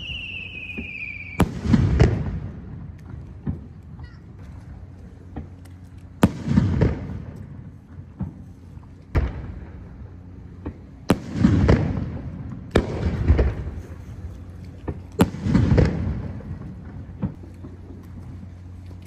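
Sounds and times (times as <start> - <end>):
firework bangs: 0.0 - 18.8
firework crackles: 0.0 - 19.0
low rumble: 0.0 - 19.0.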